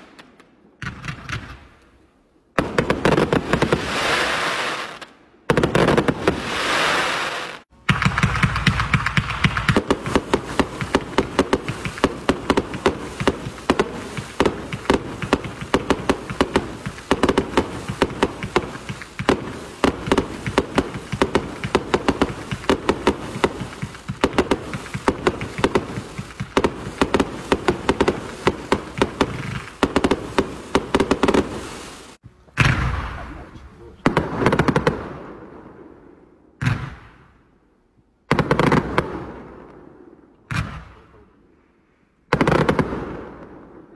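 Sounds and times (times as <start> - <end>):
fireworks popping and crackling: 0.0 - 1.8, 2.6 - 35.2, 42.3 - 43.3.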